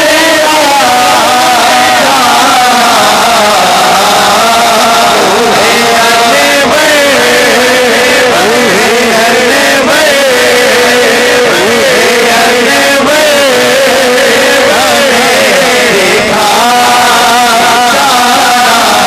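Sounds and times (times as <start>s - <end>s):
men singing devotional hymn: 0.0s - 19.0s.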